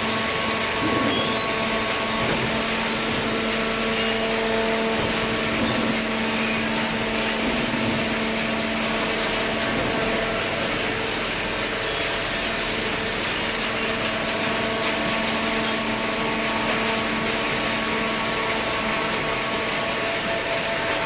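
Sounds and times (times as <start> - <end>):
hydraulic pump motor humming: 0.0 - 21.0.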